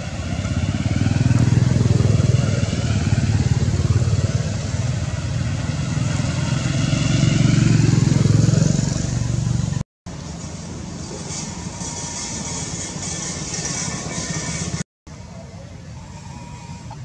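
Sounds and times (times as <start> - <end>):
motor engine droning: 0.0 - 17.0.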